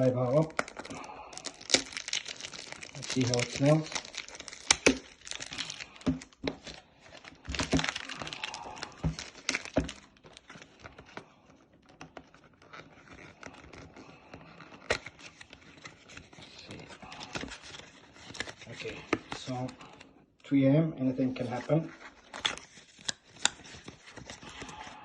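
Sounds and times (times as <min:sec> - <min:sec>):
cardboard packaging crinkling and tearing: 0:00.0 - 0:20.0, 0:21.4 - 0:25.0.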